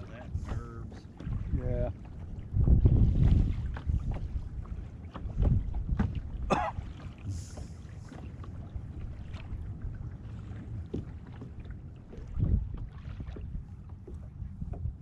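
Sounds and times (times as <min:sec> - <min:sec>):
light knocks and splashes: 0:00.0 - 0:15.0
small waves lapping against hull: 0:00.0 - 0:15.0
wind buffeting microphone: 0:00.0 - 0:15.0.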